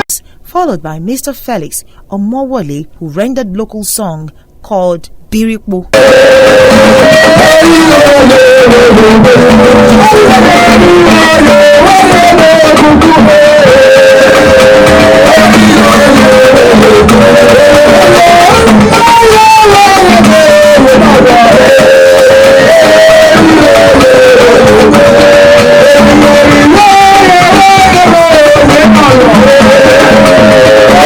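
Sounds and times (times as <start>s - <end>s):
man singing: 0.0s - 31.0s
instrumental accompaniment: 5.9s - 31.0s.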